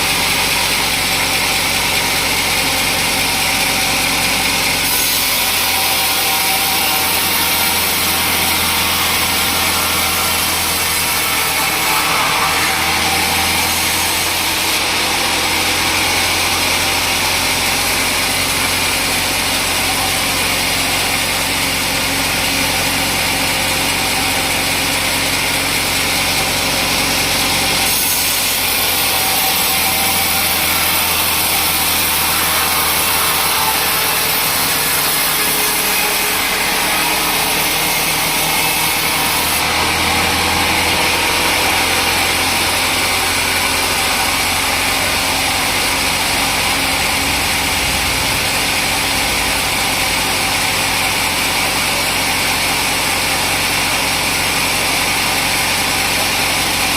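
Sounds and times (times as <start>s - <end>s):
saw cutting through wood: 0.0s - 56.9s.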